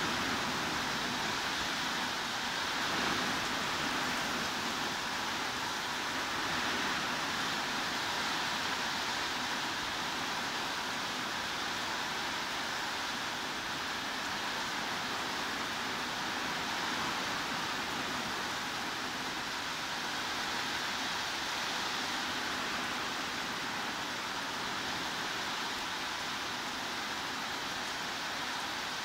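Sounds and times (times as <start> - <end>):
heavy rain hissing: 0.0 - 29.0.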